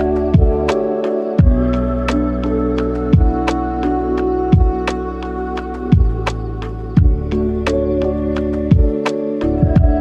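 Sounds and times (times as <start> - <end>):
soft electronic music: 0.0 - 10.0.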